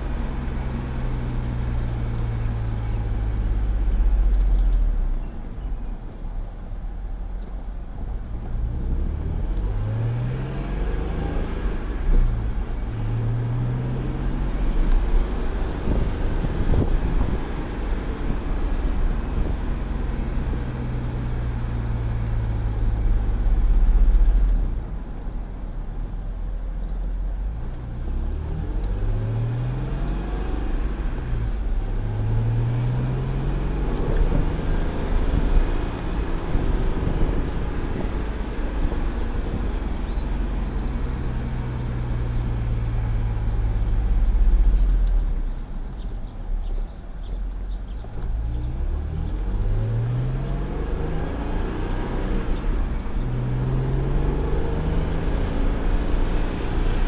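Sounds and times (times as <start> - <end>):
car engine accelerating: 0.0 - 6.3, 7.4 - 57.0
road and wind rumble: 0.0 - 57.0.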